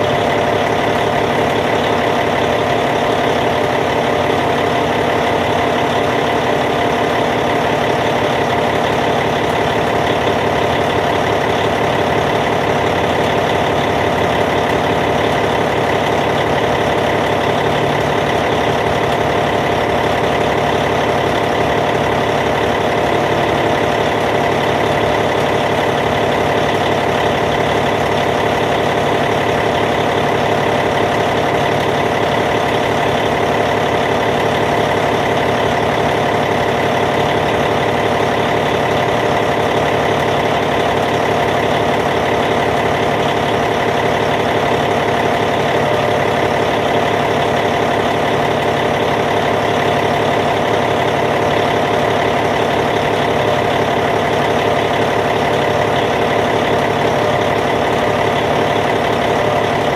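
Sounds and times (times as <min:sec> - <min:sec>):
bulldozer diesel engine idling: 0:00.0 - 0:59.9.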